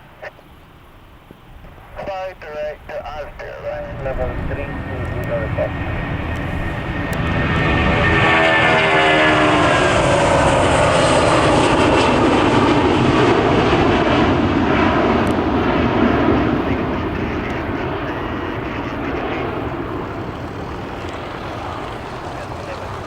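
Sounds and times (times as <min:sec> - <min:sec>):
jet airliner passing: 0:00.0 - 0:23.0.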